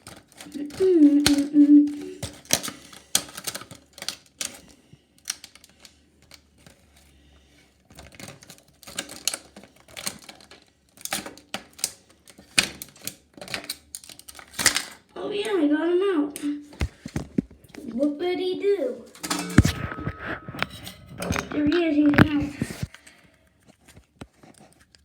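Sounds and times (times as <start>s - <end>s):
plastic packaging crackling: 0.0s - 15.1s, 19.1s - 25.0s.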